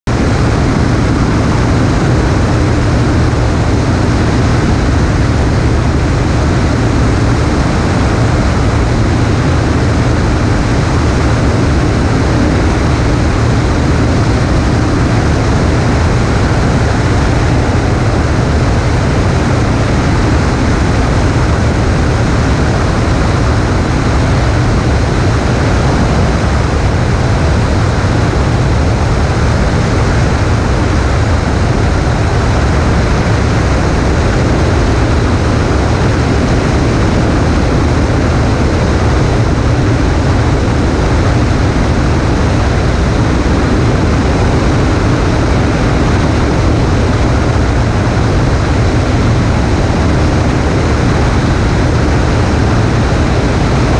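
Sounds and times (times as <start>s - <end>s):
propeller aircraft engine drone: 0.0s - 53.9s
wind on microphone: 0.0s - 53.9s.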